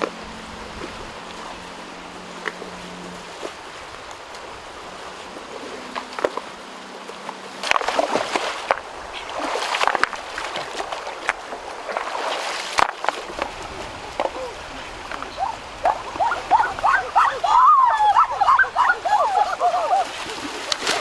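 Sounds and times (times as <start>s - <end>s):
water splashing and sloshing: 0.0s - 21.0s
water trickling: 0.0s - 21.0s.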